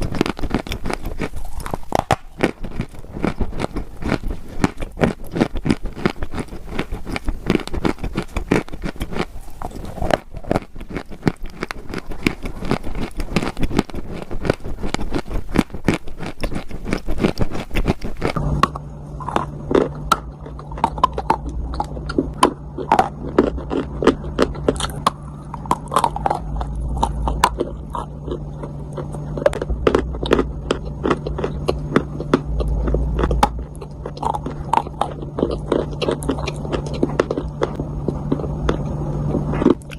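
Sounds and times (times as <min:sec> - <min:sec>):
dry clay crunching: 0:00.0 - 0:18.4, 0:19.1 - 0:39.9
steady low hum: 0:00.0 - 0:39.9.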